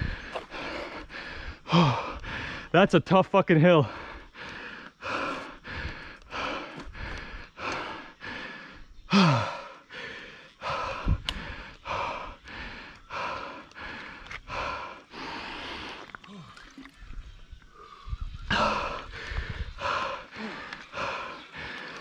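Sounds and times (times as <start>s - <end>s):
man panting: 0.0s - 2.8s, 3.8s - 16.1s, 18.3s - 22.0s.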